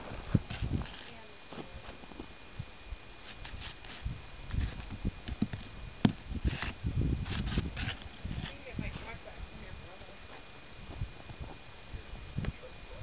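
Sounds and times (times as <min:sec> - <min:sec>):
wind buffeting microphone: 0:00.0 - 0:01.0, 0:02.5 - 0:09.9, 0:10.7 - 0:13.0.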